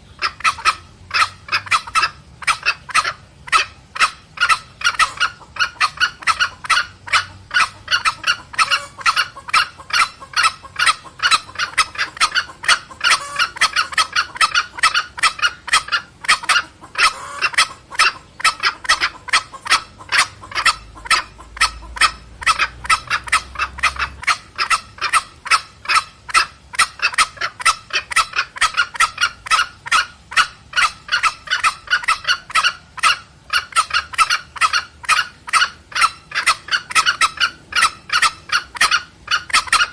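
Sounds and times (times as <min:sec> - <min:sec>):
junglefowl clucking: 0:00.0 - 0:39.9.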